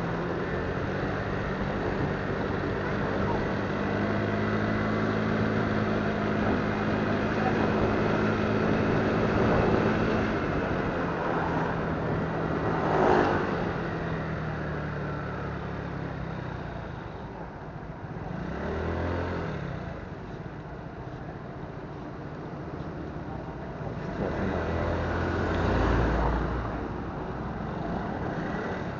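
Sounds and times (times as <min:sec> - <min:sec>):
road and wind noise: 0:00.0 - 0:28.9.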